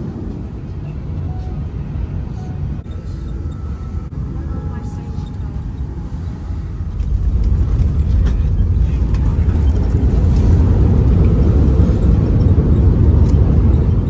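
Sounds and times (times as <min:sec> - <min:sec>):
airplane cabin rumble: 0:00.0 - 0:14.0
faint rattles: 0:00.4 - 0:14.0.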